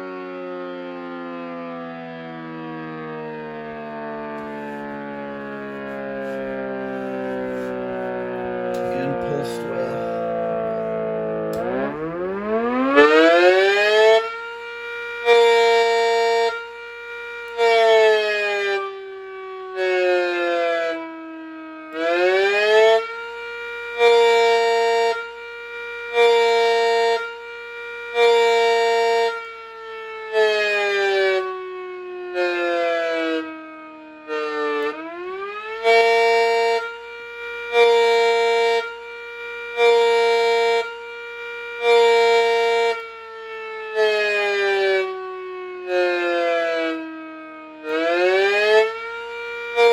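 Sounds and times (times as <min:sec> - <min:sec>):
siren pulsed wail: 0:00.0 - 0:49.9.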